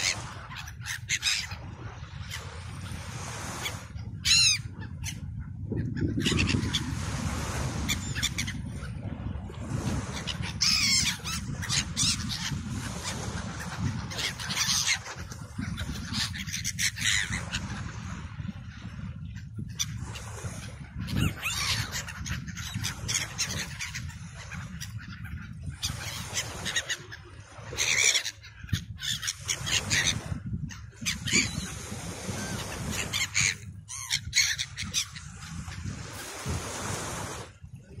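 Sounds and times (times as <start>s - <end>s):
gulls calling: 0.0s - 2.6s, 3.4s - 8.9s, 9.9s - 18.0s, 19.4s - 36.5s.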